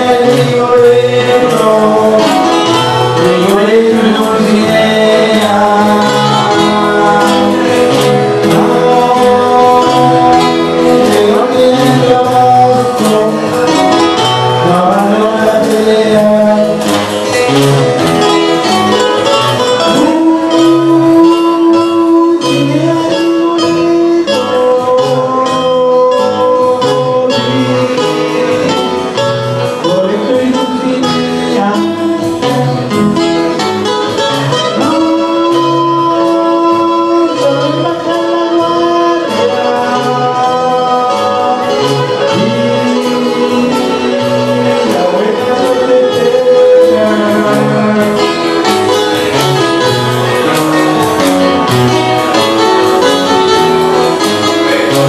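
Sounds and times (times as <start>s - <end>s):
acoustic guitars playing: 0.0s - 55.0s
person singing: 0.0s - 55.0s.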